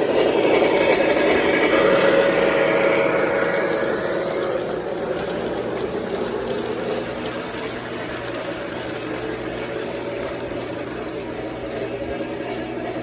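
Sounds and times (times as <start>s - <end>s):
model train motor hum: 0.0s - 13.0s.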